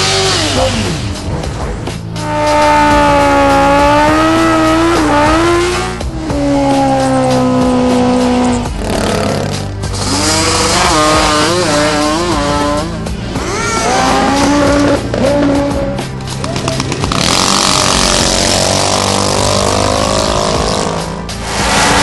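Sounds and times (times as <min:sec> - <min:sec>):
background music: 0:00.0 - 0:22.0
high-revving racing engines: 0:00.0 - 0:22.0.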